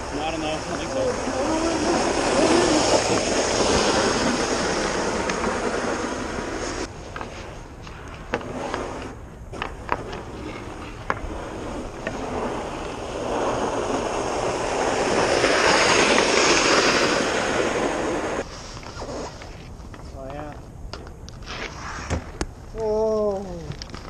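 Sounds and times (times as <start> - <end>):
skate blades scraping ice: 0.0 - 20.4, 21.3 - 22.4.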